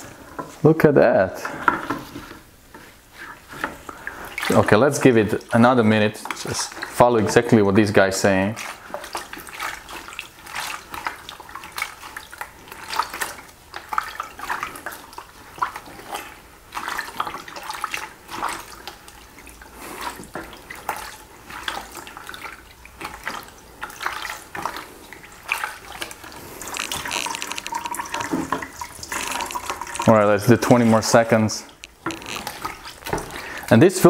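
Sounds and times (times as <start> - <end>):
liquid running into bucket: 0.0 - 34.0
wet squelching and sloshing: 1.5 - 33.9.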